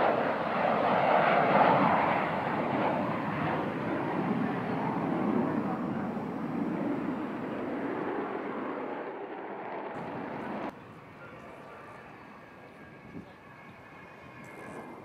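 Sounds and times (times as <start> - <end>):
faint jet whine: 0.0 - 15.0
jet roar: 0.0 - 15.0.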